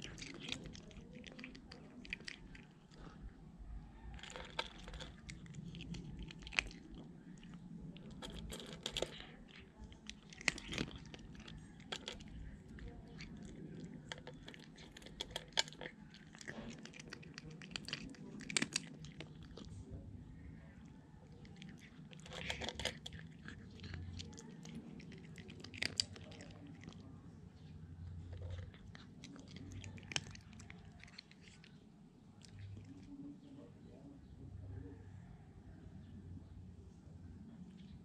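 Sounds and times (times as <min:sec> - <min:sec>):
cat crunching dry kibble: 0:00.0 - 0:33.6.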